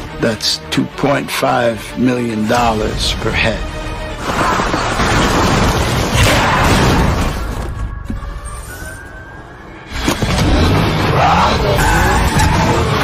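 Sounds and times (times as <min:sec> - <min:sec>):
action film music and effects: 0:00.0 - 0:13.0.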